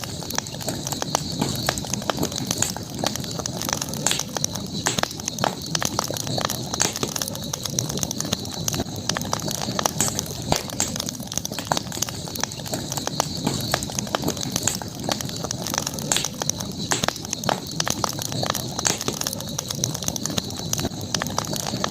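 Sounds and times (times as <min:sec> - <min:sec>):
campfire crackling: 0:00.0 - 0:21.9.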